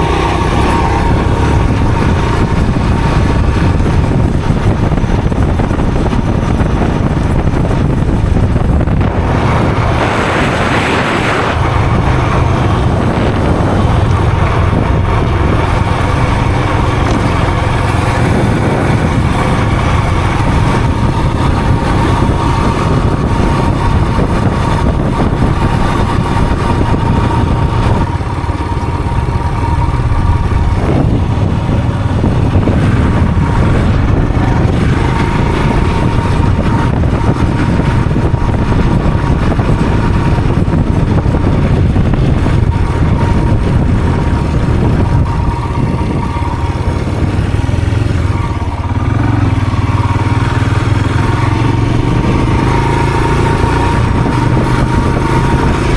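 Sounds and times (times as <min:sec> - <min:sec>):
road noise: 0:00.0 - 0:55.9
vehicle engine rumble: 0:00.0 - 0:55.9
wind: 0:00.0 - 0:55.9.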